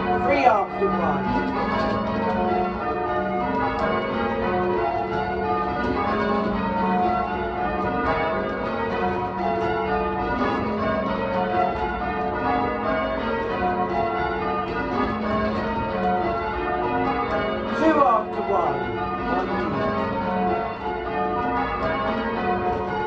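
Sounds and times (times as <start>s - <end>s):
church bells ringing changes: 0.0s - 23.0s.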